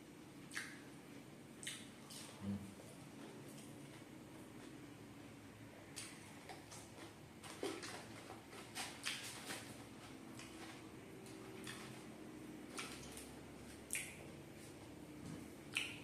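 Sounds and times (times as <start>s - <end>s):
person chewing with wet smacks: 0.4s - 4.9s, 5.8s - 16.0s.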